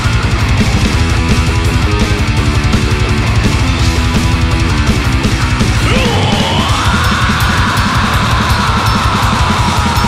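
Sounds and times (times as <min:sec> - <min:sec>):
heavy metal band playing live: 0:00.0 - 0:10.0.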